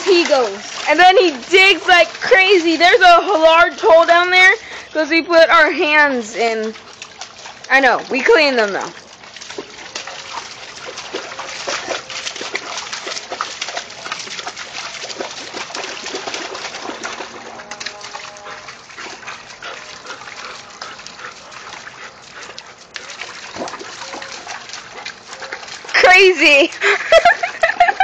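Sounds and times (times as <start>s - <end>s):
dog digging in wet mud: 0.0s - 28.0s.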